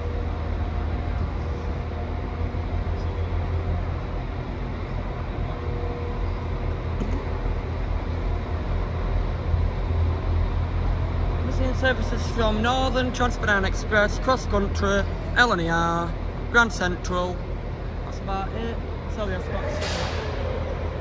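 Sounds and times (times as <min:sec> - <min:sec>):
train rumbling at platform: 0:00.0 - 0:21.0.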